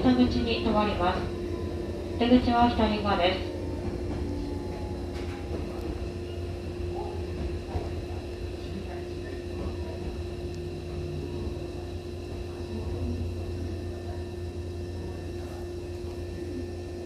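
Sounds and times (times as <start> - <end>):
constant hum: 0.0 - 17.0
train interior rumble: 0.0 - 17.0.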